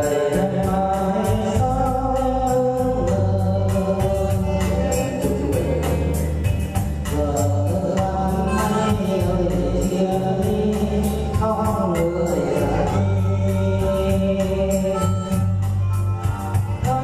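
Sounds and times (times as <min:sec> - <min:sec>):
electronic keyboard music: 0:00.0 - 0:17.0
person singing: 0:00.0 - 0:17.0.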